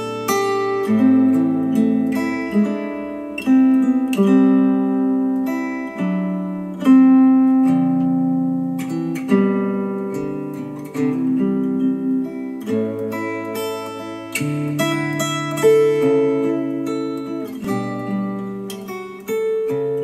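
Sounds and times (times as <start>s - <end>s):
acoustic guitar plucked notes: 0.0s - 20.0s.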